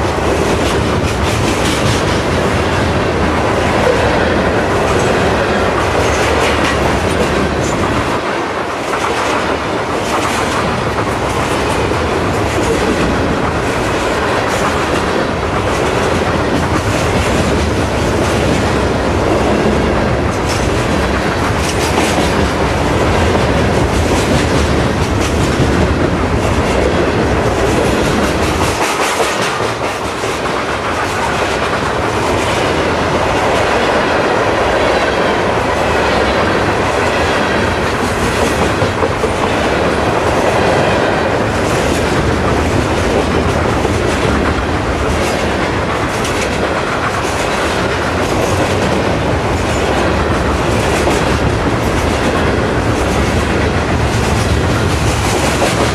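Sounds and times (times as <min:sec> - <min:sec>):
freight train rumbling past: 0:00.0 - 0:55.9
wheels clacking over rail joints: 0:00.0 - 0:55.9.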